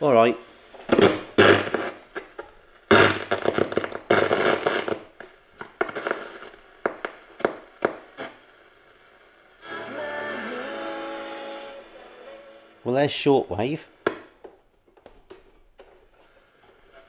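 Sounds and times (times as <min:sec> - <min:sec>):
radio static hissing and crackling: 0:00.0 - 0:14.4, 0:15.6 - 0:17.0.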